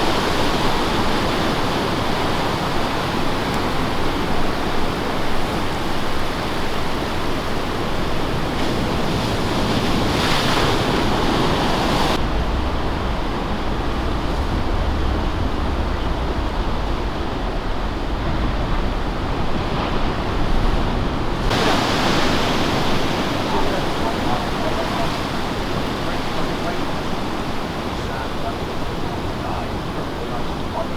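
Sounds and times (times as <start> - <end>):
surf breaking: 0.0 - 30.9
wind buffeting microphone: 0.0 - 30.9.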